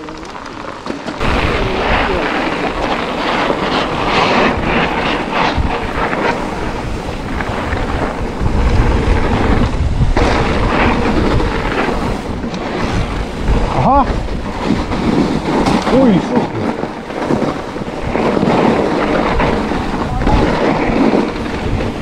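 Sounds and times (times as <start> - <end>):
bike rattling and knocking: 0.0 - 22.0
bike tyre noise: 0.0 - 22.0
wind rushing over microphone: 0.0 - 22.0.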